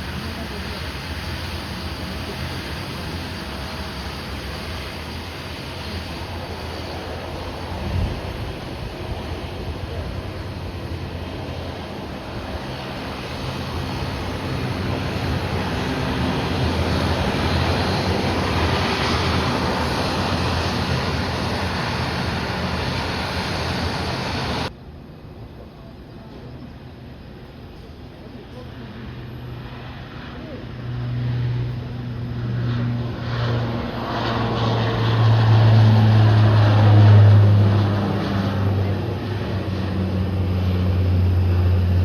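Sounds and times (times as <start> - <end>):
jet engine during takeoff: 0.0 - 42.0.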